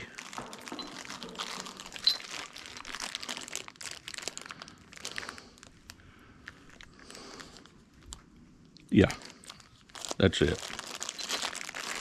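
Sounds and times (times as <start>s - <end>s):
parts crinkling and rustling: 0.0s - 12.0s.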